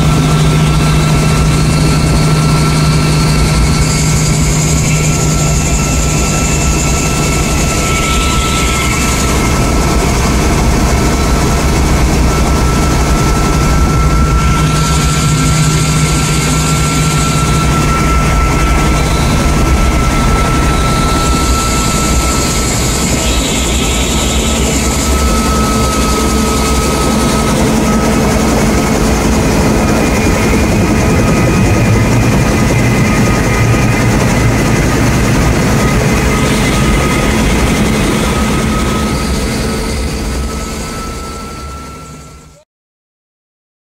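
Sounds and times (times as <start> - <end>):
helicopter engine and rotor: 0.0 - 42.6.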